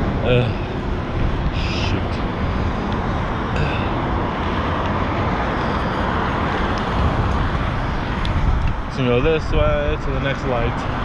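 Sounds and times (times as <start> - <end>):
road traffic: 0.0 - 11.0
wind on microphone: 0.0 - 11.0.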